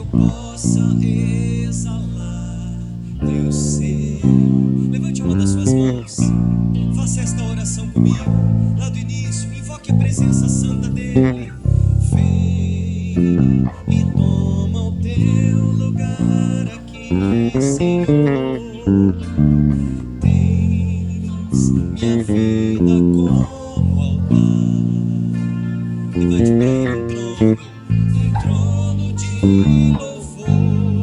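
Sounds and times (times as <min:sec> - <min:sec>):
electric bass guitar: 0:00.0 - 0:31.0.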